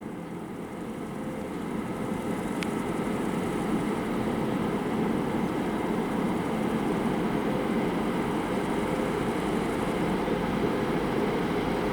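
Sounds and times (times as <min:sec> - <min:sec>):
electric locomotive hum and rumble: 0:00.0 - 0:11.9.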